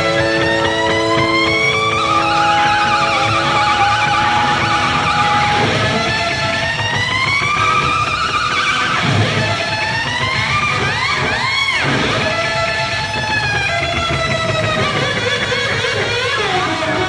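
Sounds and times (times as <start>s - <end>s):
electric guitar pitch bends: 0.0s - 17.0s
rock band playing: 0.0s - 17.0s.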